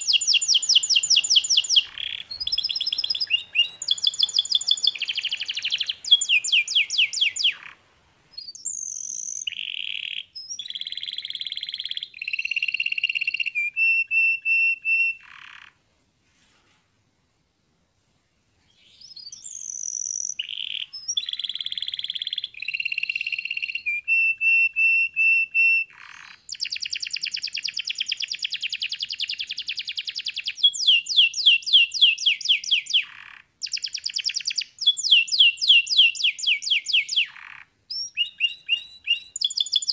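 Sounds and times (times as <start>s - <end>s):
canary singing: 0.0s - 15.8s, 18.8s - 39.9s.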